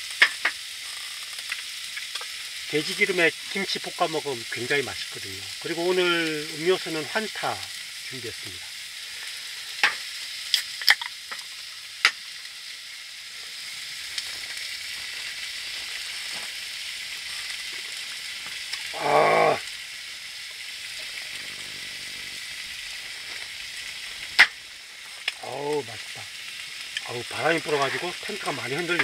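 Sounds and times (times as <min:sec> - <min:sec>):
meat frying sizzling hiss: 0:00.0 - 0:29.0.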